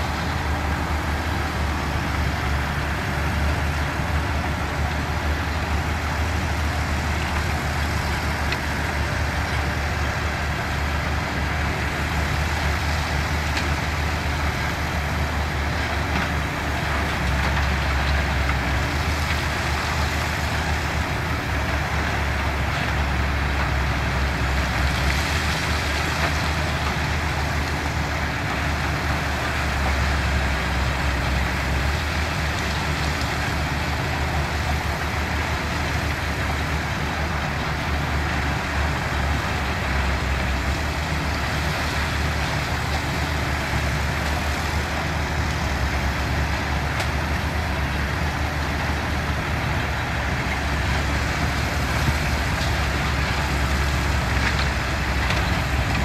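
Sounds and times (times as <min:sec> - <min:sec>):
heavy construction machinery drone: 0:00.0 - 0:56.0.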